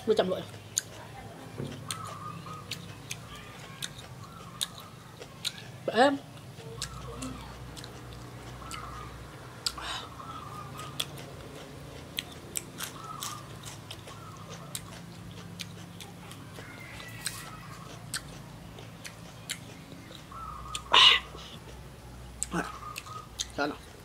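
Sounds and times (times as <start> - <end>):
crunchy chewing: 0.0 - 24.0.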